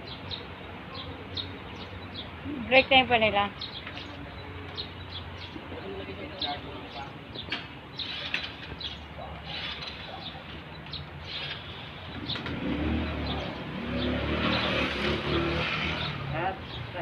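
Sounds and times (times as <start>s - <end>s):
birds chirping: 0.0s - 17.0s
motor vehicle engine: 0.0s - 17.0s.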